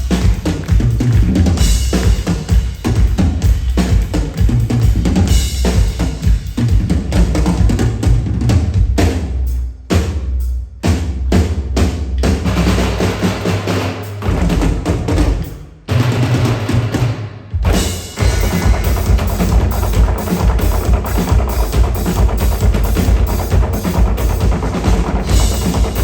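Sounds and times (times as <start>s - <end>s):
drums playing fast rhythm: 0.0s - 26.0s.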